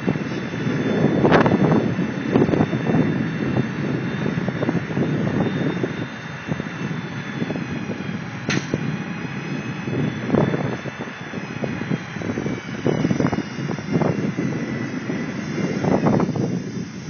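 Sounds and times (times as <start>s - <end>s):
heavy farm vehicle rumbling: 0.0s - 17.0s.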